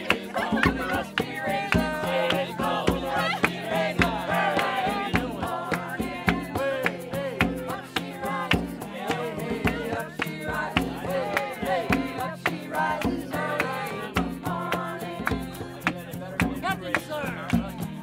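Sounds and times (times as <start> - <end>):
acoustic guitar strumming: 0.0 - 18.0
people singing: 0.0 - 18.0.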